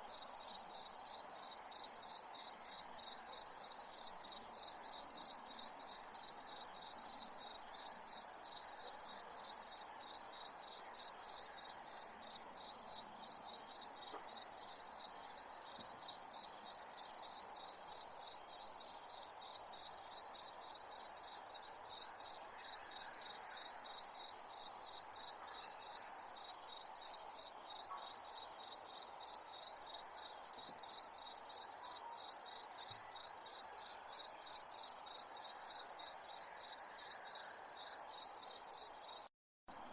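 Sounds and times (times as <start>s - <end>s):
crickets chirping: 0.1s - 39.2s.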